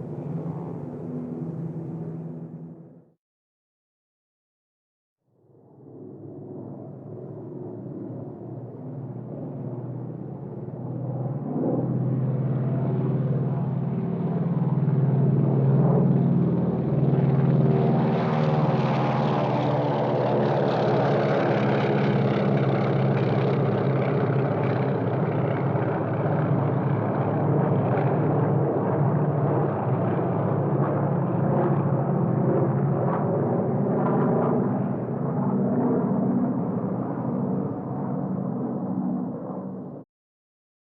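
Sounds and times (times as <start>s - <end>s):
airplane engine droning: 0.0s - 3.1s, 5.8s - 40.0s.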